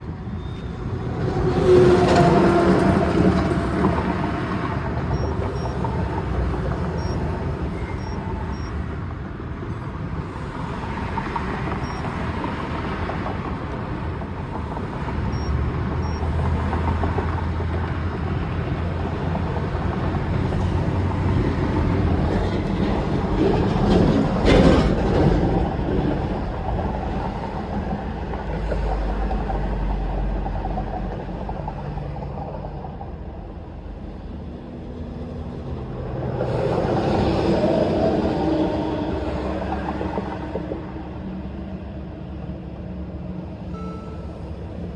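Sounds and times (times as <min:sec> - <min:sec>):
engine and road rumble: 0:00.0 - 0:44.9.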